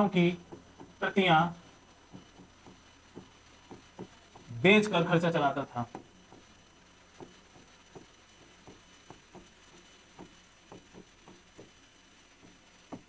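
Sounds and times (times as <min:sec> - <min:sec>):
stylus tapping on screen: 0:00.4 - 0:04.6, 0:05.9 - 0:13.0.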